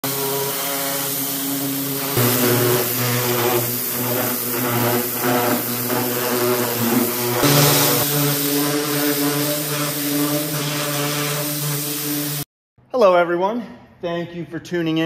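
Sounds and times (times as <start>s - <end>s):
high-pressure water jet hissing: 0.0s - 12.5s
pressure washer pump humming: 0.0s - 12.5s.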